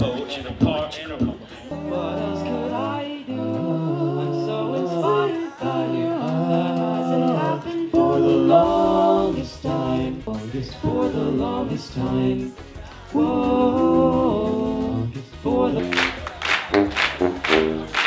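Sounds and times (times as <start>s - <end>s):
male a cappella group singing: 1.4s - 16.4s.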